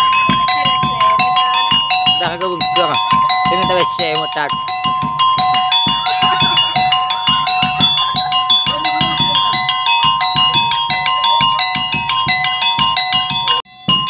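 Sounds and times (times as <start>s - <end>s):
drum beating quick rhythm: 0.0s - 14.0s
ringing metal percussion tune: 0.0s - 14.0s.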